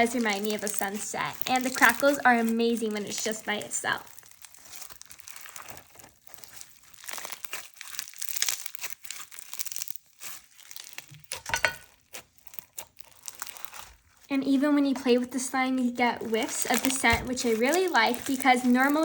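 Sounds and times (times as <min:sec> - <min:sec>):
slime crackling: 0:00.0 - 0:19.0.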